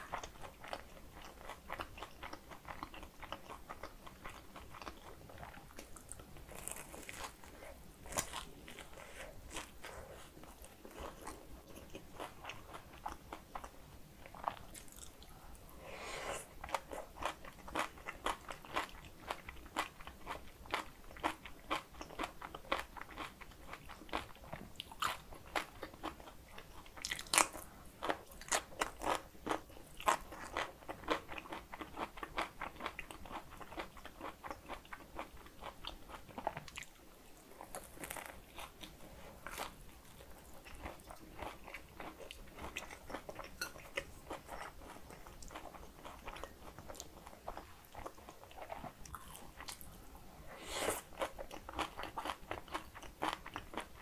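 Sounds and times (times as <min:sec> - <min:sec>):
crunchy chewing: 0:00.1 - 0:15.4, 0:16.6 - 0:50.0.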